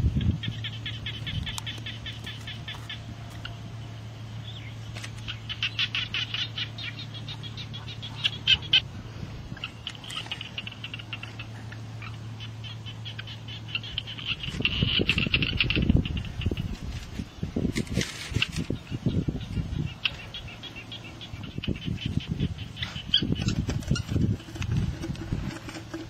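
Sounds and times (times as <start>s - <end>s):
high sharp chirping calls: 0.0s - 16.9s, 18.3s - 25.3s
low steady hum: 0.0s - 26.0s.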